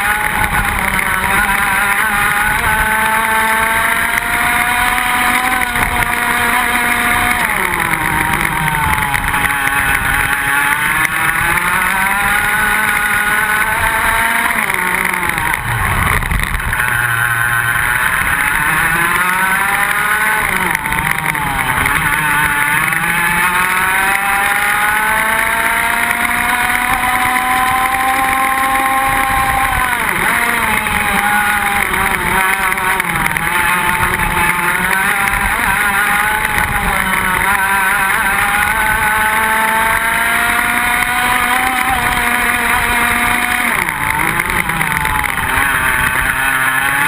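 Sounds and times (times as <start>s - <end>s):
kart engine revving: 0.0s - 47.0s.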